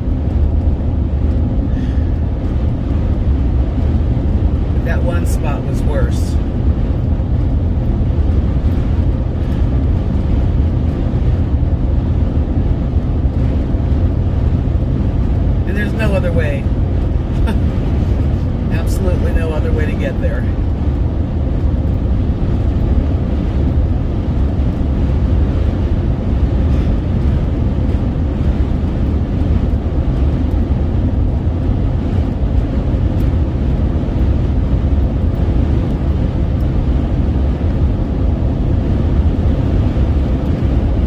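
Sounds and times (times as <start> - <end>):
road and wind noise in cabin: 0.0 - 41.0.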